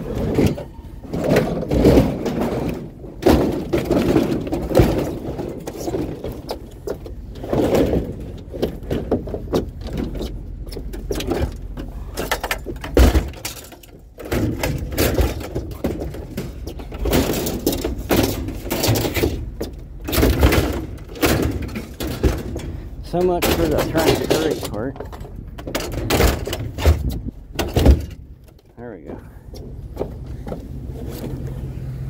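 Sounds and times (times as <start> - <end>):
scrap clattering and scraping: 0.0 - 31.8.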